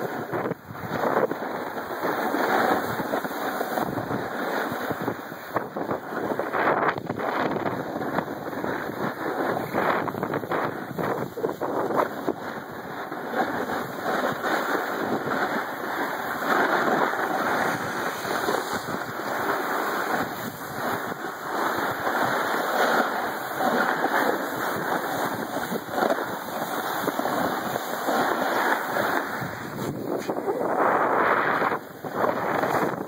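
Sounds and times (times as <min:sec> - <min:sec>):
skis scraping over snow: 0:00.0 - 0:33.0
wind on microphone: 0:00.0 - 0:33.0.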